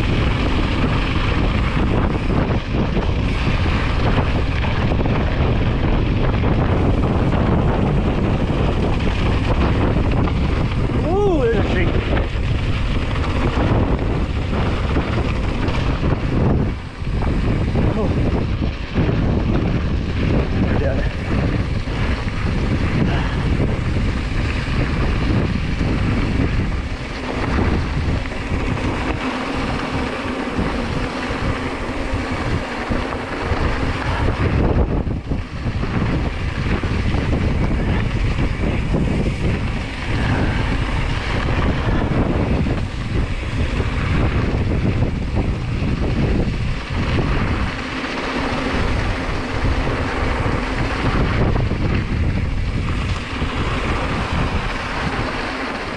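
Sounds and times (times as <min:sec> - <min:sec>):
bike tyres rumbling on dirt: 0:00.0 - 0:55.9
wind rushing over microphone: 0:00.0 - 0:55.9.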